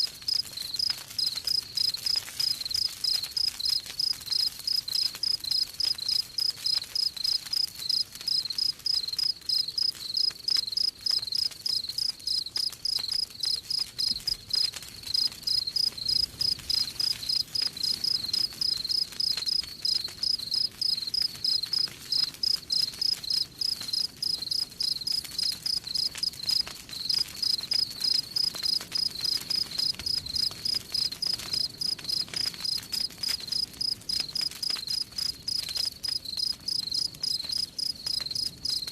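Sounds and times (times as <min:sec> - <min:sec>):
faint campfire crackles: 0:00.0 - 0:38.9
cricket chirping: 0:00.3 - 0:38.8.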